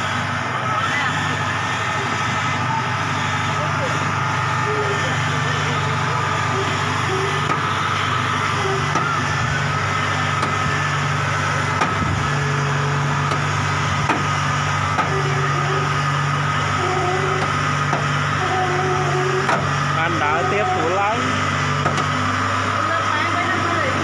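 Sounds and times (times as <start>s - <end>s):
diesel engine running: 0.0s - 24.0s
high whine: 0.0s - 24.0s.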